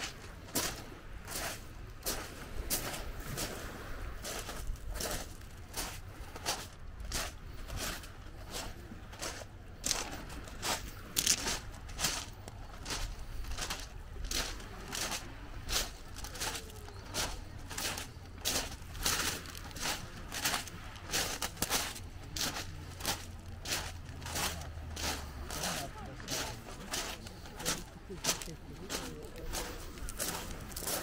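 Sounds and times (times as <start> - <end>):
footsteps on pebbles: 0.0 - 31.0.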